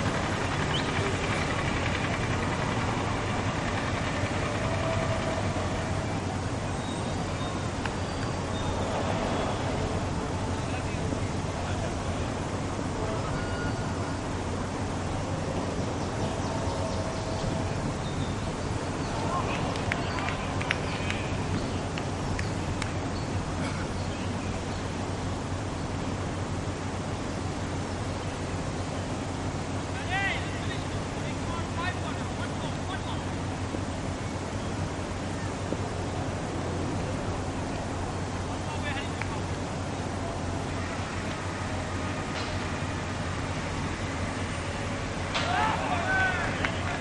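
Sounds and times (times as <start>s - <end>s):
outdoor rumble and hiss: 0.0s - 47.0s.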